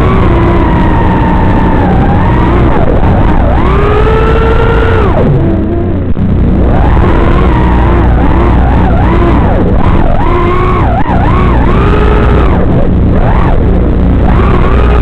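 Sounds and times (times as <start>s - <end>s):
drone motors whining: 0.0s - 15.0s
steady low hum: 0.0s - 15.0s.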